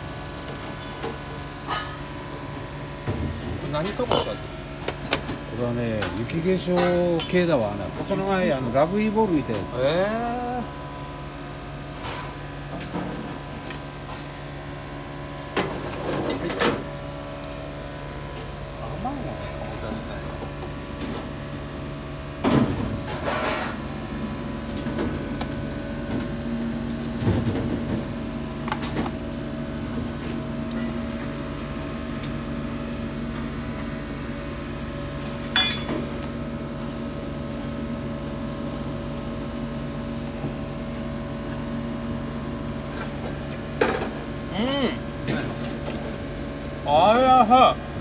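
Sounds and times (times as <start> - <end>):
kitchen equipment humming: 0.0 - 48.0.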